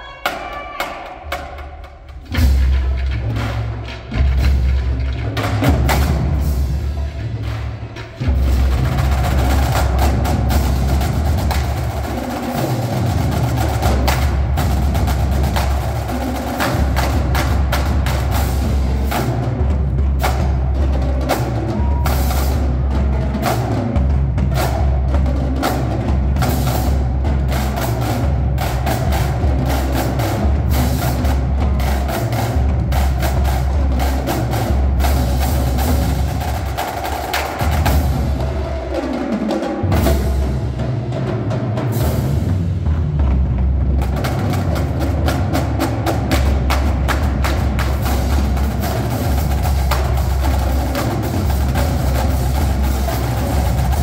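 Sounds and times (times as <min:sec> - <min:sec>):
bass drums: 0:00.0 - 0:54.0
cymbals: 0:00.0 - 0:54.0
snare drums: 0:00.0 - 0:54.0
tenor drums: 0:00.0 - 0:54.0.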